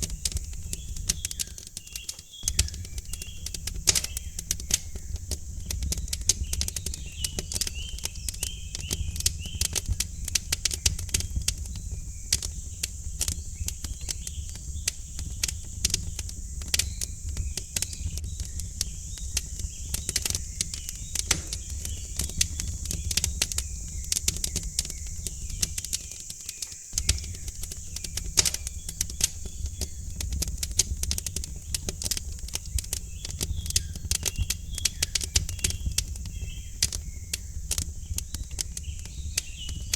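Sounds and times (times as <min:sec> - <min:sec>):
birds chirping faintly: 0:00.0 - 0:39.9
low steady fire rumble: 0:00.0 - 0:39.9
wood fire crackling: 0:00.0 - 0:39.9.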